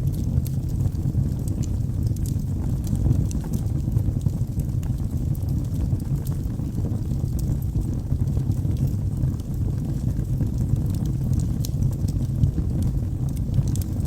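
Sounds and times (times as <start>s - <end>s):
fire crackles and pops: 0.0s - 14.0s
flames rumbling: 0.0s - 14.0s.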